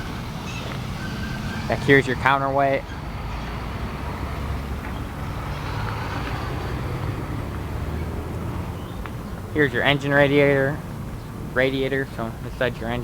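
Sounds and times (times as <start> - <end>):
engine running drone: 0.0 - 13.0.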